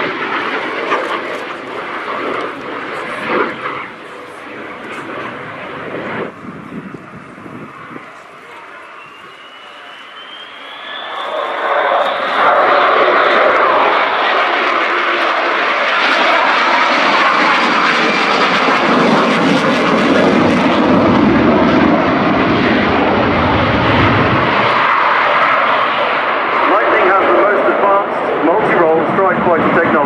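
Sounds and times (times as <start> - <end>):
jet aircraft roar: 0.0 - 30.0.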